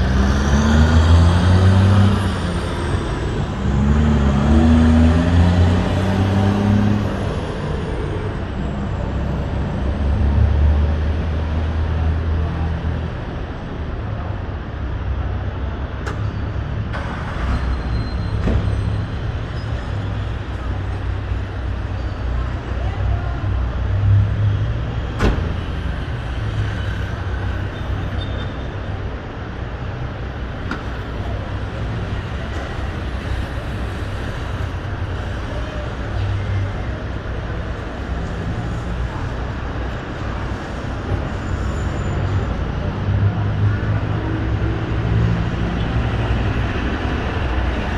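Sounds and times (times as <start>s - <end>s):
cars passing: 0.0s - 47.9s
road traffic rumble: 0.0s - 47.9s.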